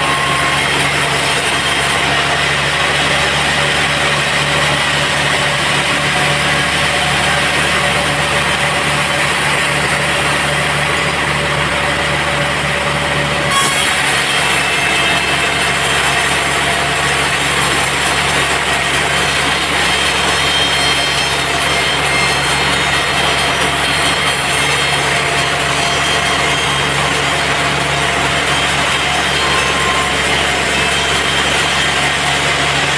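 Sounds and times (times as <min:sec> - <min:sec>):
band saw cutting timber: 0:00.0 - 0:32.9.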